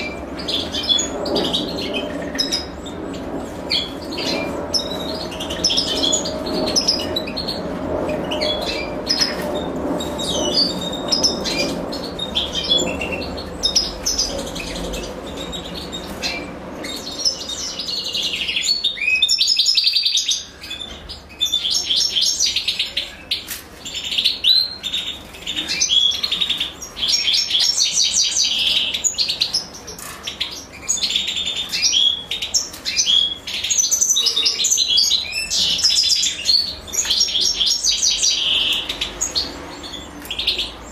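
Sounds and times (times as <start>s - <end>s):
birds chirping in high twitters: 0.0s - 40.9s.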